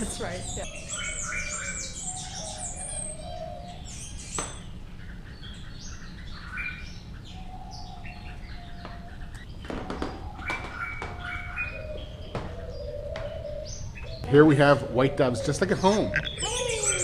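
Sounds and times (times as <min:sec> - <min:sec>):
small birds chirping and twittering: 0:00.0 - 0:17.0
steady low hum: 0:00.0 - 0:17.0.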